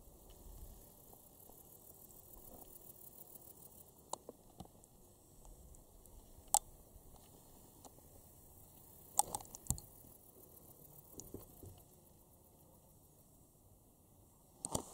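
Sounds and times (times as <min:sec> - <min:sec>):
faint outdoor hiss: 0:00.0 - 0:14.9.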